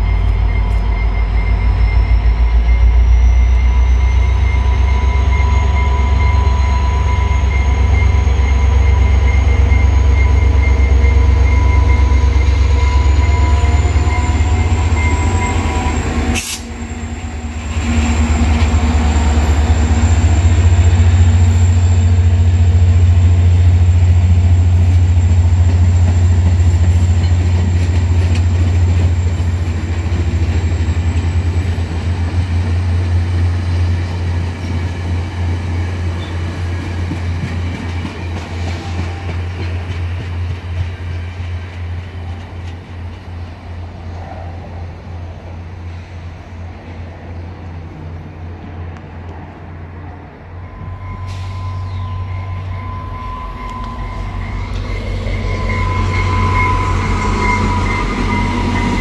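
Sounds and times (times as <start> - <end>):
coaches rolling on rails: 0.0 - 59.0
diesel locomotive engine rumble: 0.0 - 59.0.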